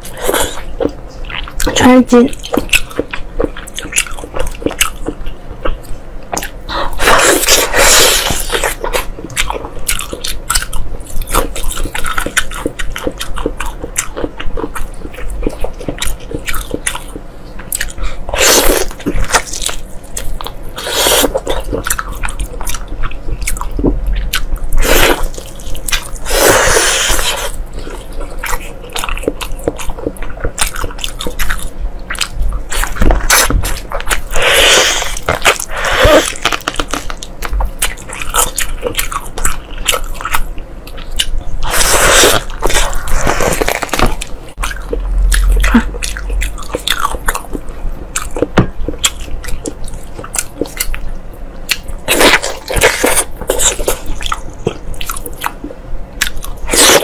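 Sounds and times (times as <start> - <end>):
person biting and chewing: 2.4 - 51.1, 51.7 - 55.6, 56.2 - 57.0.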